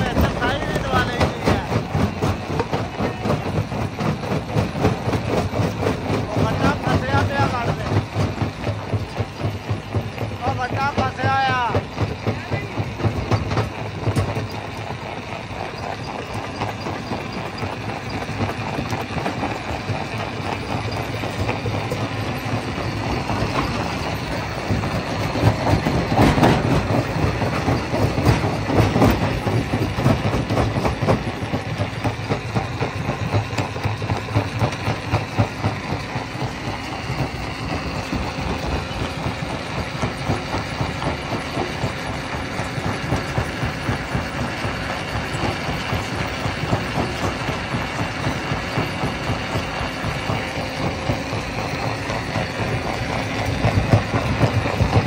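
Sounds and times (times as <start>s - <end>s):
rock crusher rumbling and clattering: 0.0s - 55.0s.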